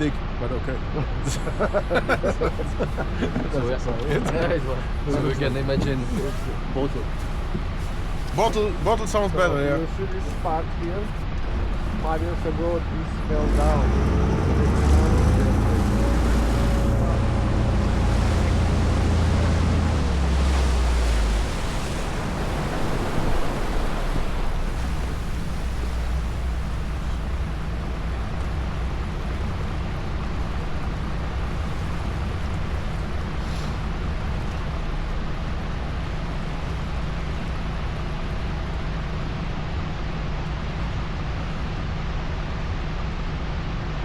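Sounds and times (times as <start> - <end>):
boat engine rumble: 0.0 - 44.0
rushing water: 0.0 - 44.0
wind: 0.0 - 44.0.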